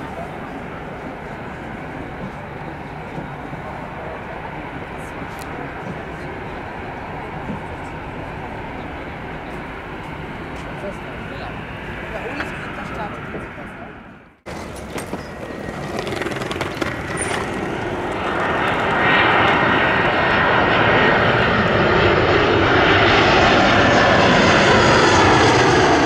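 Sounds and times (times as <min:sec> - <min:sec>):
airliner engine roar: 0:00.0 - 0:26.0.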